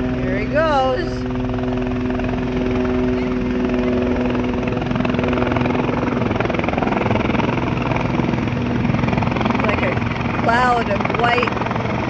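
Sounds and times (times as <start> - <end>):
helicopter engine whine: 0.0 - 12.0
helicopter rotor chop: 0.0 - 12.0.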